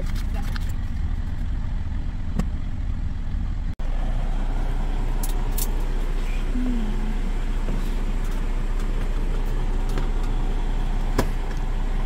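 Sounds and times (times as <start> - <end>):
diesel engine idling: 0.8 - 12.0.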